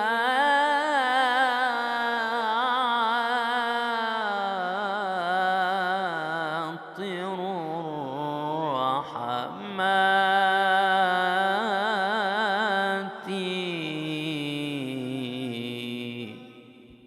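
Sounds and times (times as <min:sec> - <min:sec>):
man singing devotional chant: 0:00.0 - 0:17.0.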